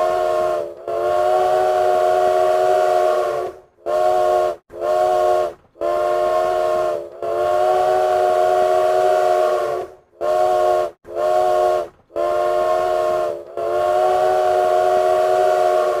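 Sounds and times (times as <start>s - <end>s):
train whistle blasts: 0.0s - 16.0s.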